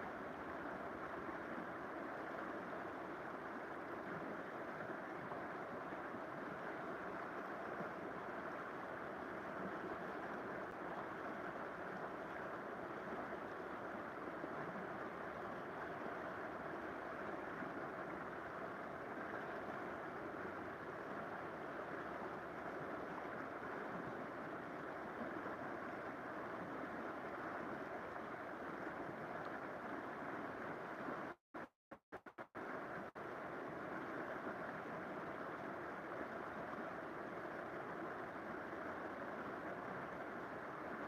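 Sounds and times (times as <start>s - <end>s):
river water rushing: 0.0s - 31.2s, 32.6s - 41.0s.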